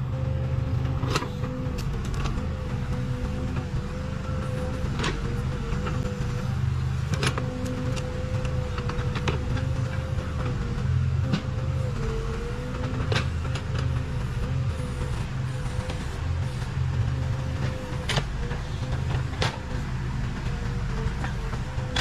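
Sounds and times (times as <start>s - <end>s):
backhoe diesel engine running: 0.0s - 22.0s.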